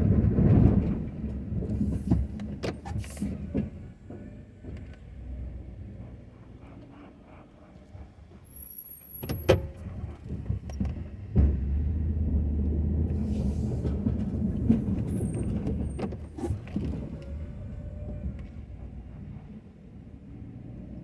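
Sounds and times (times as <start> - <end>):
pickup truck engine running: 0.0 - 21.0.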